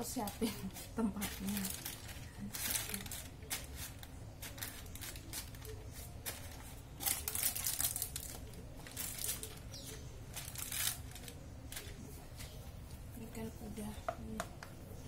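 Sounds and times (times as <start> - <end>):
baking paper crinkling: 0.0 - 13.5.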